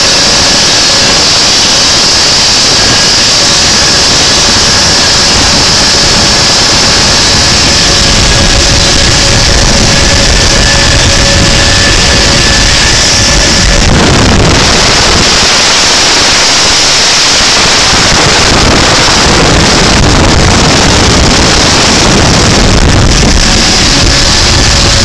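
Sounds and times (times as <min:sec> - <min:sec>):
wind blasting across microphone: 0:00.0 - 0:25.0.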